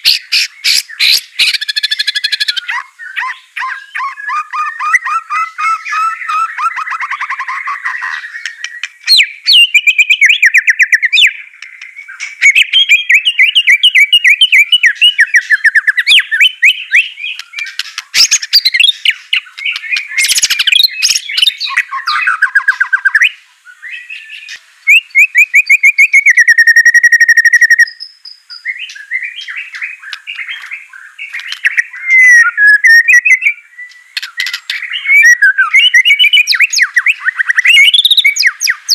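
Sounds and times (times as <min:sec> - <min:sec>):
bird singing rapid trills: 0:00.0 - 0:38.9.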